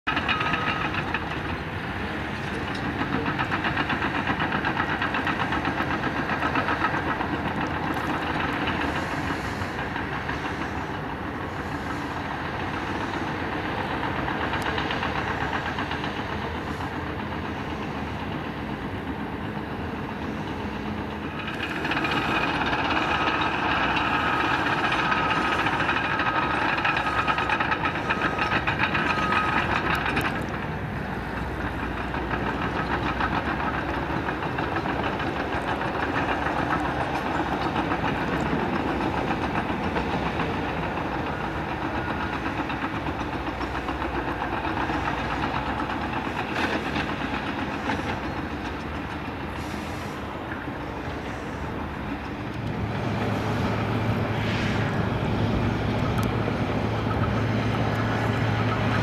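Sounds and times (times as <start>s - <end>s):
diesel engine running under load: 0.0s - 59.0s
steel tracks clattering: 0.1s - 59.0s
steady high whine: 6.8s - 59.0s.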